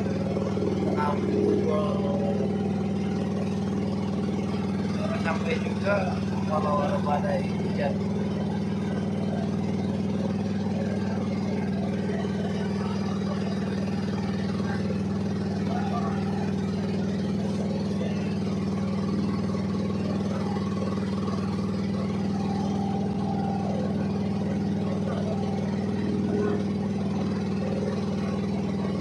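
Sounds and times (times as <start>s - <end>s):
boat engine humming: 0.0s - 29.0s.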